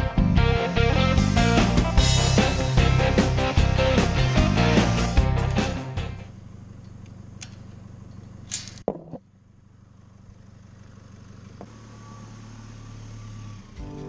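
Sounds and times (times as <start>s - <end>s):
pickup engine hum: 0.0s - 14.0s.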